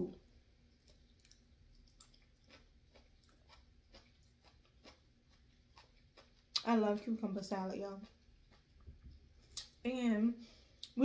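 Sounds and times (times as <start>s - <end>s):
faint chewing: 0.1s - 11.0s.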